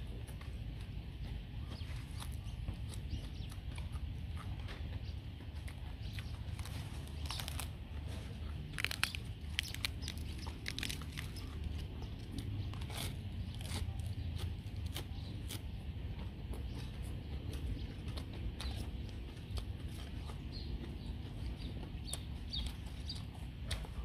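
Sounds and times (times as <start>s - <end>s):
chewing and crunching: 0.0s - 24.0s
steady low rumble: 0.0s - 24.0s.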